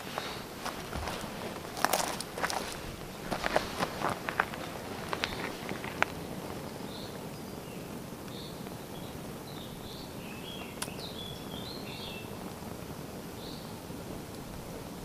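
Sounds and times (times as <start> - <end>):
birds chirping: 0.0 - 13.8
wind buffeting microphone: 0.0 - 15.0.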